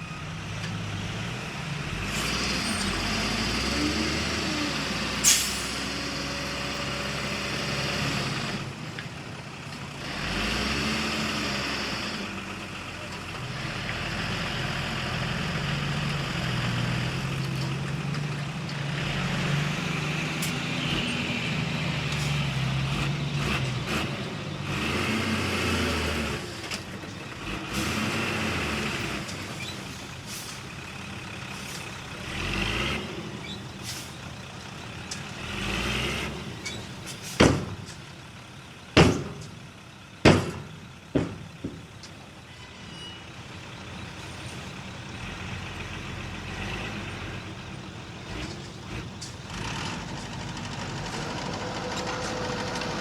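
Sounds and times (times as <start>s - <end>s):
diesel machinery engines: 0.0s - 53.0s.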